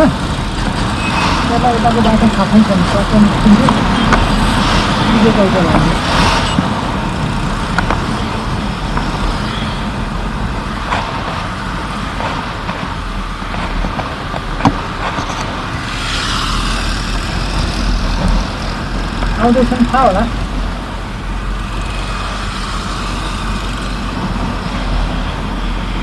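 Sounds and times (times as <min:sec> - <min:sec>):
motorbike engine hum: 0:00.0 - 0:26.0
road and wind noise: 0:00.0 - 0:26.0.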